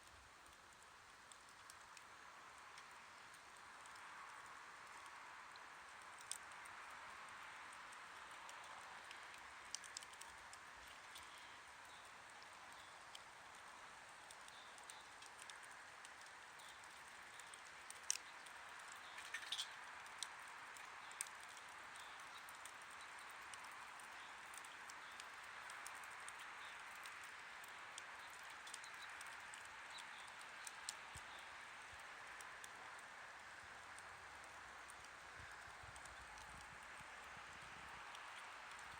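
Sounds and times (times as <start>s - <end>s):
campfire hissing: 0.0s - 38.9s
fire crackling and popping: 0.0s - 38.9s.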